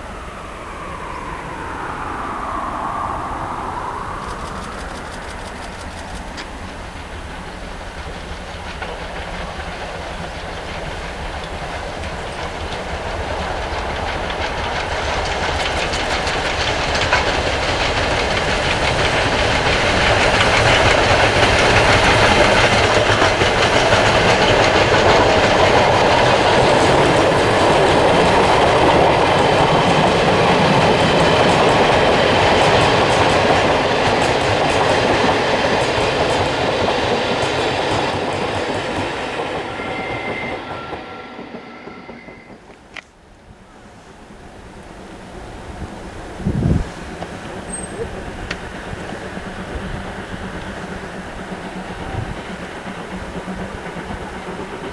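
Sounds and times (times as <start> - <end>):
steam train passing: 0.0 - 54.9
wheels clattering over rail joints: 4.3 - 39.4, 44.3 - 54.9.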